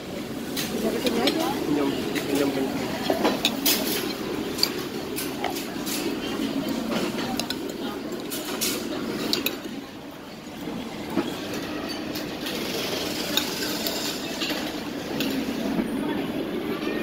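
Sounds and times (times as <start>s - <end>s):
tableware clinking: 0.4s - 9.8s, 11.0s - 15.6s.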